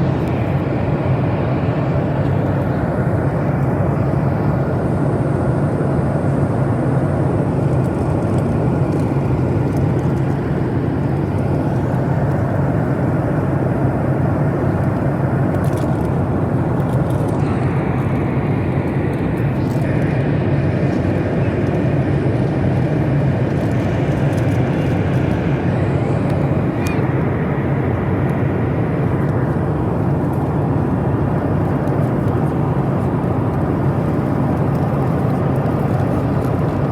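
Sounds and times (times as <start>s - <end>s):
jet engine drone in cabin: 0.0s - 36.9s.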